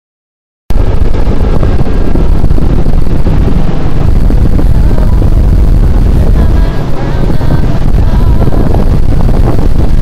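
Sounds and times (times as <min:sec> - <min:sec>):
wind buffeting microphone: 0:00.7 - 0:10.0.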